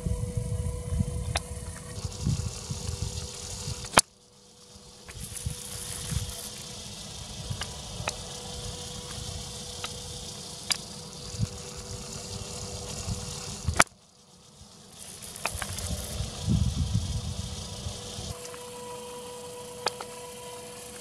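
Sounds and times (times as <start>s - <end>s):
machine wheel sweeping over sand: 0.0s - 21.0s
motor hum: 0.0s - 21.0s
scattered clicks: 0.9s - 18.6s, 19.8s - 21.0s.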